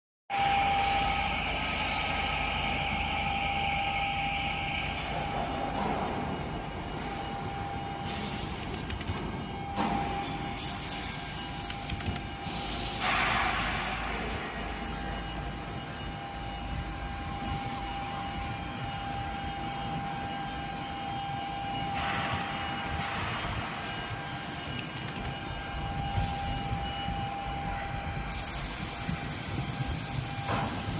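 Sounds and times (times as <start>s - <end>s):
industrial machinery whining: 0.3s - 30.9s.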